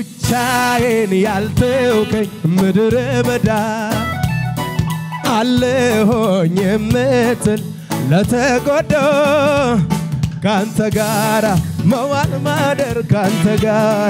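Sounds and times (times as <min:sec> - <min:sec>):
man singing worship song: 0:00.0 - 0:04.3, 0:05.2 - 0:14.0
electronic keyboard accompaniment: 0:00.0 - 0:14.0.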